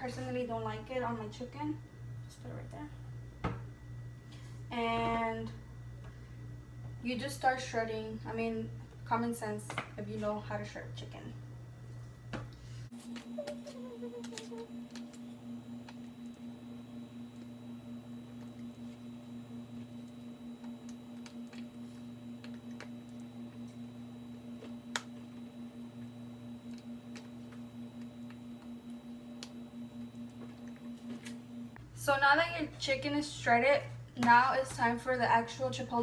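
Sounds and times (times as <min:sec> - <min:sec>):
low pulsing hum: 0:00.0 - 0:36.0.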